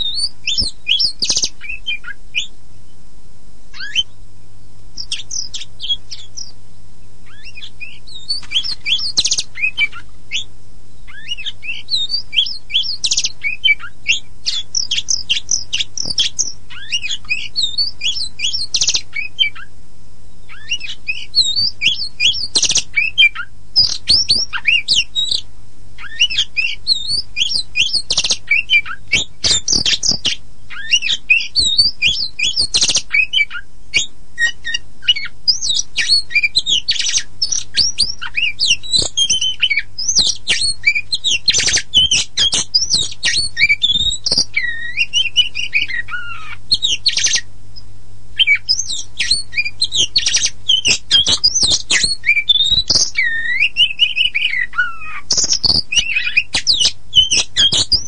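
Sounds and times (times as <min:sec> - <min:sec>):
faint low hum: 0:00.0 - 0:58.0
songbird singing: 0:00.0 - 0:58.0.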